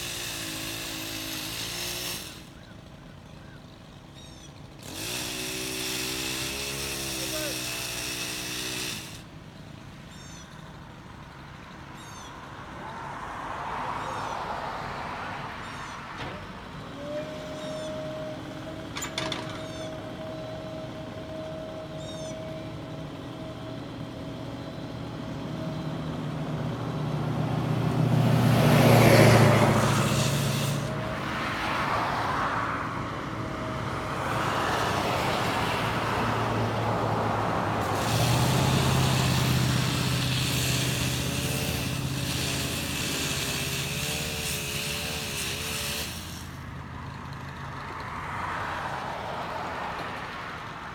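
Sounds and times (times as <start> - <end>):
vehicle engine whining: 0.0 - 50.9.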